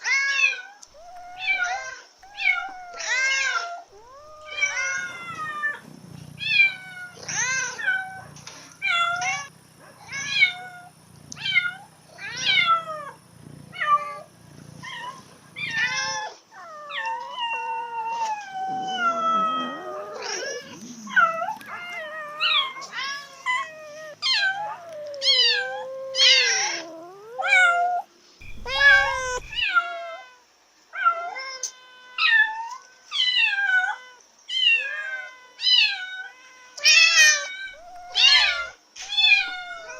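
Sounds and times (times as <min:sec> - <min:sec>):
cat yowling: 0:00.0 - 0:30.4, 0:31.0 - 0:39.9.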